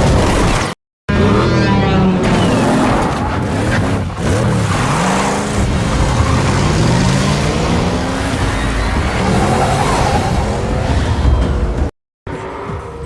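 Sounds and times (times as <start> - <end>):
loud engine revving: 1.1 - 11.9.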